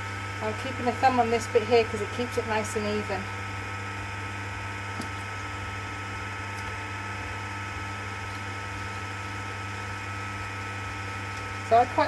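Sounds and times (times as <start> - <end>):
potter's wheel motor humming: 0.0 - 12.0.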